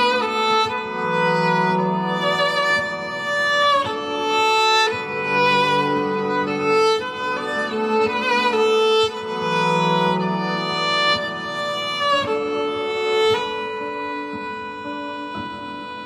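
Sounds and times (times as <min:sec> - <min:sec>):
layered bowed viola notes: 0:00.0 - 0:16.0.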